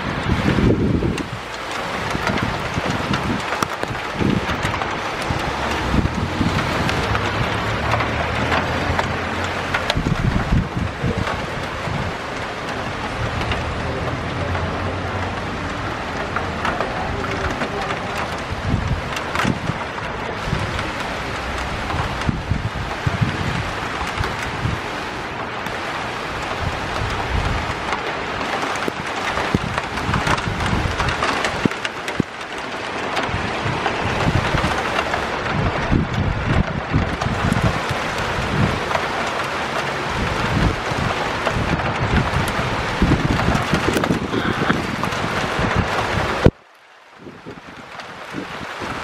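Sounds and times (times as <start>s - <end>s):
rain on wet pavement: 0.0s - 49.0s
wind rumbling on microphone: 0.0s - 49.0s.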